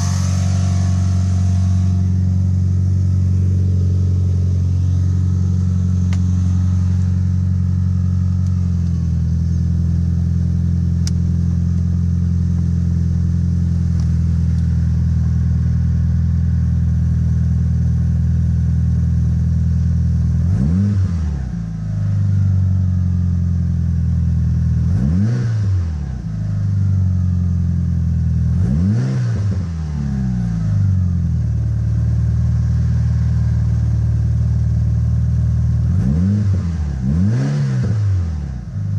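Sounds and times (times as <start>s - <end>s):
engine revving: 0.0s - 16.6s, 20.3s - 22.6s, 24.6s - 26.9s, 27.8s - 38.9s
turbocharged car engine idling: 0.0s - 38.9s.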